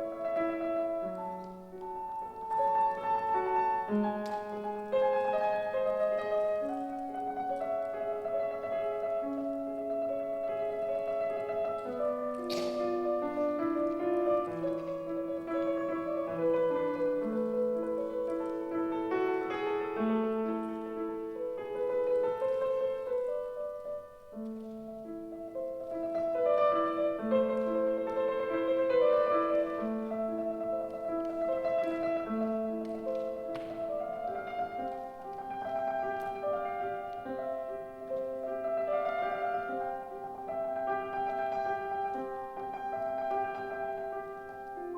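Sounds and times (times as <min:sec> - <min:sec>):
slow classical piano piece: 0:00.0 - 0:44.9.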